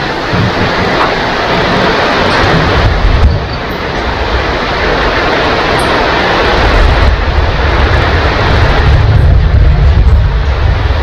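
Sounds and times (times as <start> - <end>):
heavy rain falling: 0.0 - 11.0
thunder rumbling: 0.0 - 11.0.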